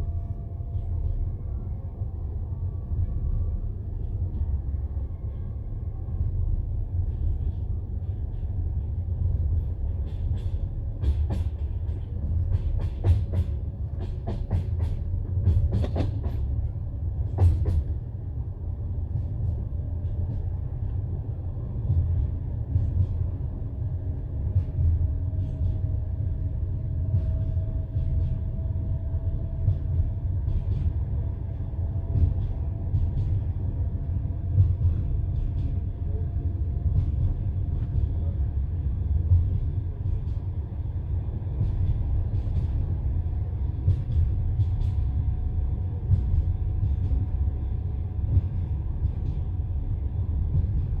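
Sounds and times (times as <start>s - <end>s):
train carriage rumble: 0.0s - 51.0s.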